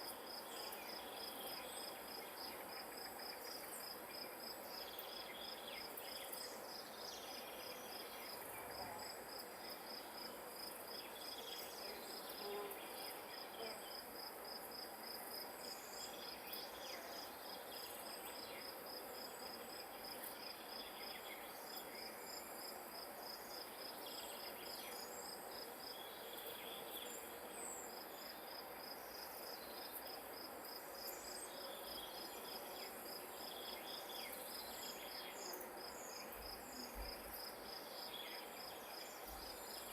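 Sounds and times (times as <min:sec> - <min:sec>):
insect chirping: 0:00.0 - 0:39.9
soft outdoor hiss: 0:00.0 - 0:39.9.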